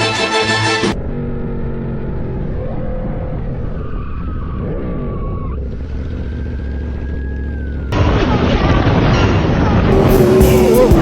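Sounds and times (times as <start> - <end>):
road noise: 0.0 - 11.0
motorcycle engine running: 0.9 - 11.0.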